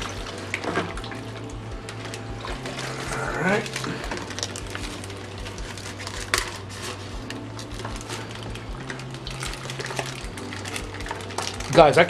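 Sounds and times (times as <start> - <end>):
steady low hum: 0.0 - 11.9
plastic bags crinkling: 0.0 - 12.0.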